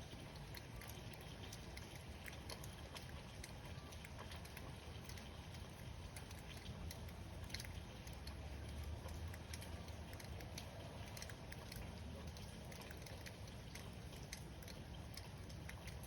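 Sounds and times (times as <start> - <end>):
light rain pattering: 0.0 - 16.0.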